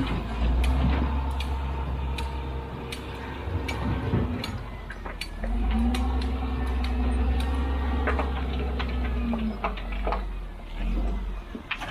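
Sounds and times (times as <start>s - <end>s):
diesel engine running under load: 0.0s - 11.9s
sharp clicks and knocks: 0.0s - 11.9s.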